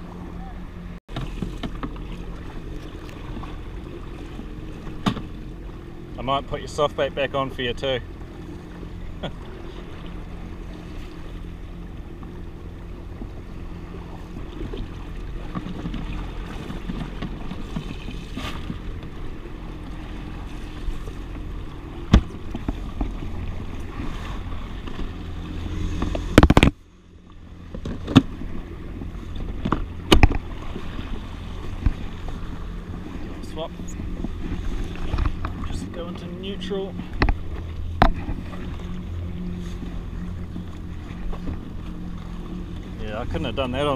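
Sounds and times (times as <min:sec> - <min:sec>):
jet ski engine humming: 0:00.0 - 0:43.9
water sloshing along hull: 0:00.0 - 0:43.9.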